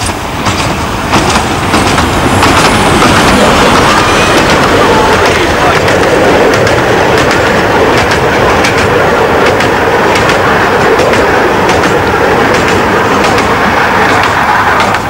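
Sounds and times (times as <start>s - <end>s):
train wheels clicking over rail joints: 0.0s - 15.0s.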